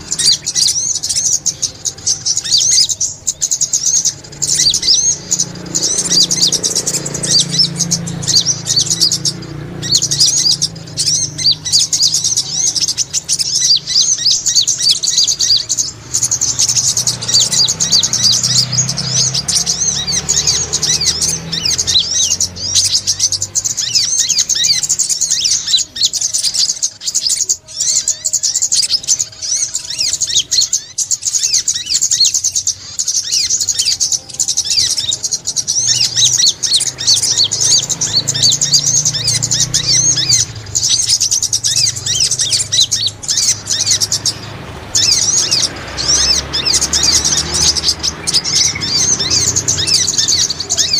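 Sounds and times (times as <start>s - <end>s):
bird twittering: 0.0s - 50.9s.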